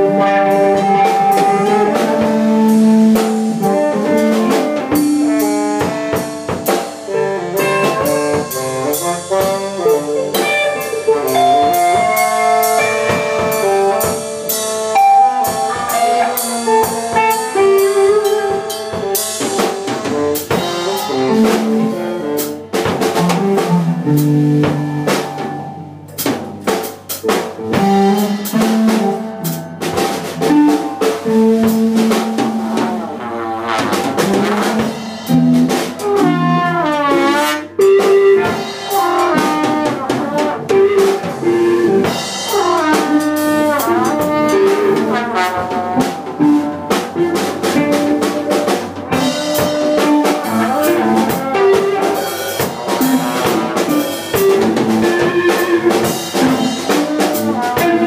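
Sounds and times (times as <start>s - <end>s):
electric guitar: 0.0s - 36.8s, 37.7s - 58.0s
drum kit with snare hits: 0.0s - 58.0s
trombone melody: 0.0s - 58.0s.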